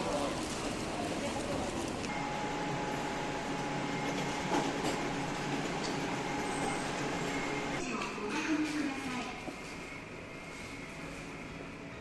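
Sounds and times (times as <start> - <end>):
train carriage running noise: 0.0 - 12.0.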